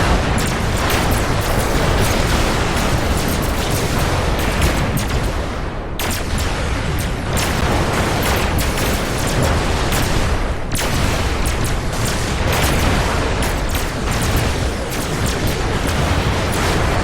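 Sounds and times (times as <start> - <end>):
laser blaster shots: 0.0 - 17.0
low rumble of explosions: 0.0 - 17.0.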